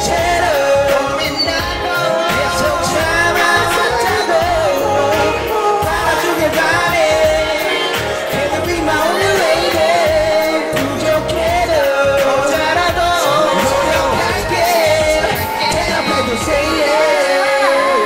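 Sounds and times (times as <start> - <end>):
man singing through microphone: 0.0 - 18.0
pop music with drum beat: 0.0 - 18.0.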